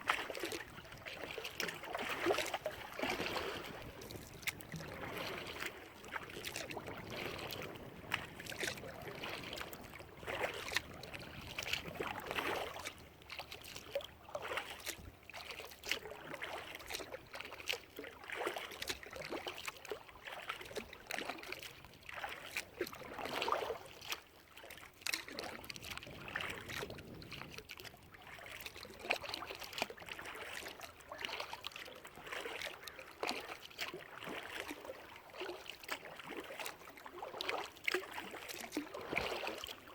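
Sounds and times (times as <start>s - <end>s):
paddle splashing and dripping water: 0.0s - 39.9s.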